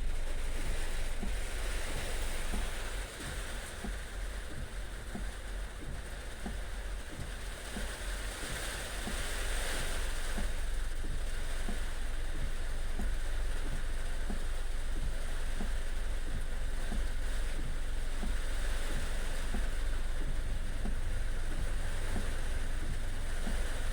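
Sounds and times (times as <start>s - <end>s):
heavy rain pouring: 0.0s - 23.9s
low rumble: 0.0s - 23.9s
faint regular taps: 0.1s - 23.9s.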